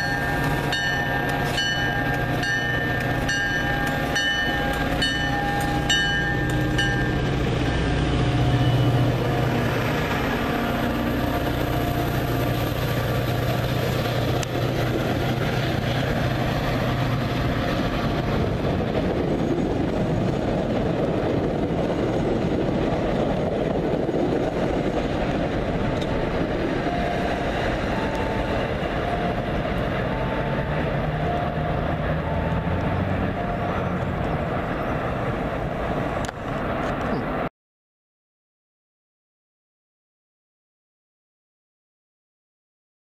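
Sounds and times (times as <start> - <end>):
diesel locomotive engine hum: 0.0 - 37.5
train wheels rumbling on rails: 0.0 - 37.5.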